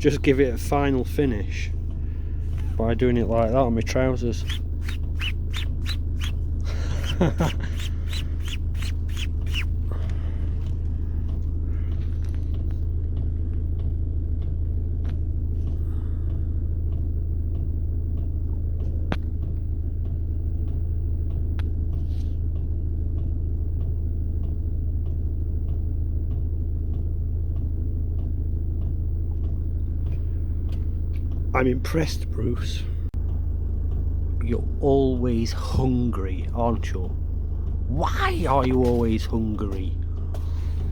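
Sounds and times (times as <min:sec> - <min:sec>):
low rumbling hum: 0:00.0 - 0:40.9.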